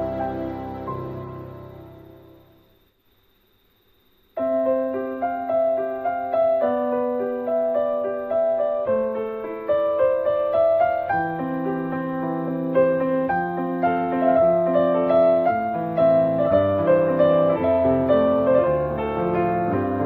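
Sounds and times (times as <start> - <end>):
slow piano melody: 0.0 - 2.7, 4.4 - 20.0.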